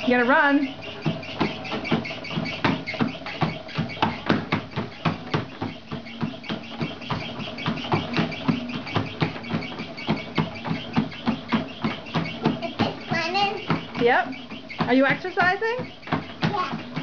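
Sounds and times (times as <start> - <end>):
child running on treadmill: 0.0 - 17.0
treadmill hum: 0.0 - 17.0.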